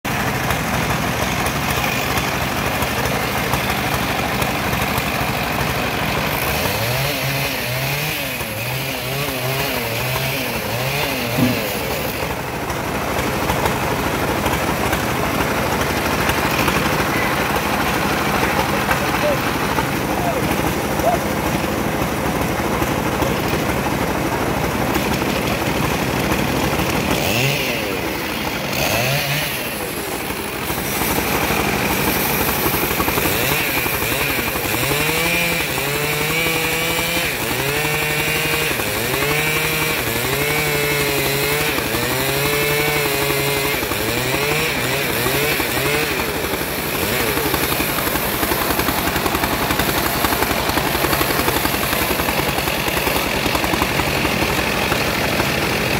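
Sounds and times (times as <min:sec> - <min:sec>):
bandsaw cutting wood: 0:00.0 - 0:55.9.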